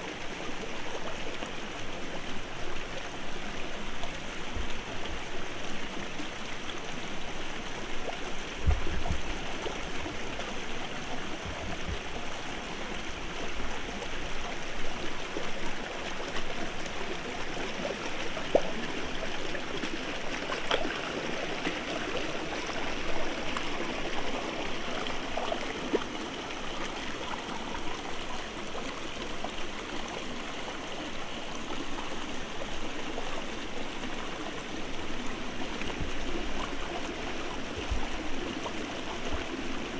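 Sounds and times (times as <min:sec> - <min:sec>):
stream splashing over stones: 0:00.0 - 0:39.9.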